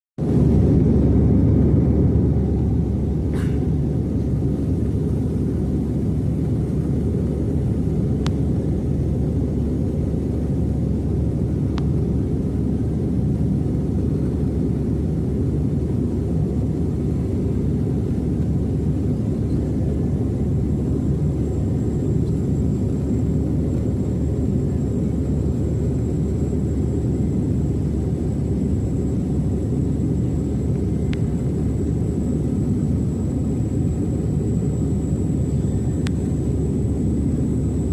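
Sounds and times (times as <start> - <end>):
aircraft low rumble: 0.2 - 37.9
faint high whine: 0.3 - 37.9.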